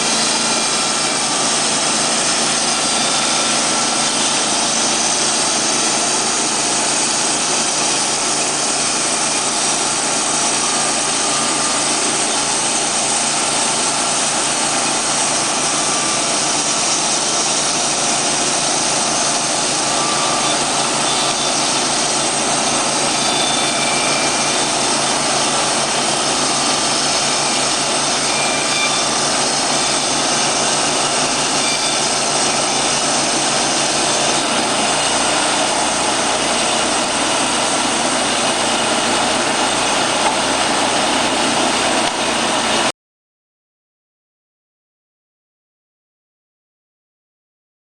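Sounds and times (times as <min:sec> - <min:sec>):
band sawmill running: 0:00.0 - 0:42.9.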